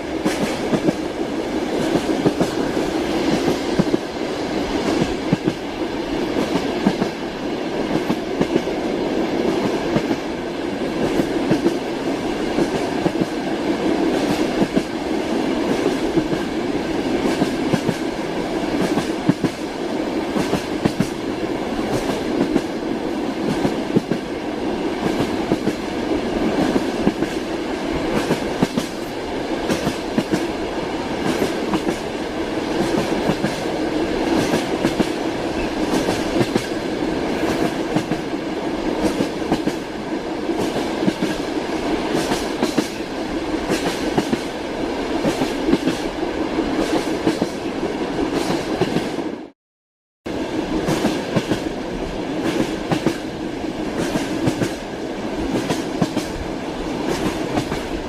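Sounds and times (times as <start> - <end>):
train wheels clacking on rails: 0.0 - 49.2, 50.7 - 58.0.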